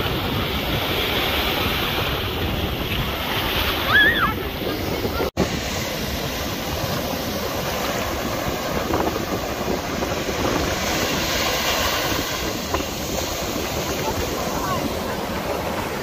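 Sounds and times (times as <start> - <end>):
ocean surf rushing: 0.0 - 16.0
wind rumbling on microphone: 0.0 - 16.0.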